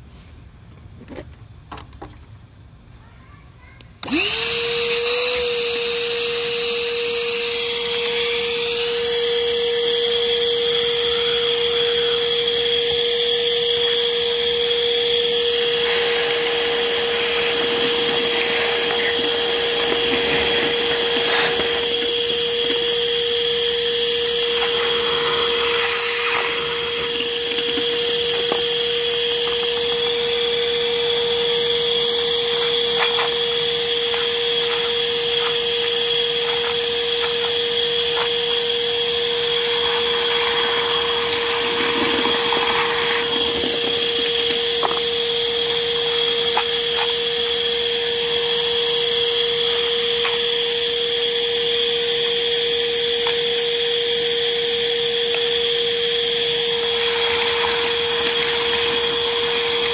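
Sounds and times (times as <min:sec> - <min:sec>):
shop vacuum motor whine: 0:04.0 - 0:59.9.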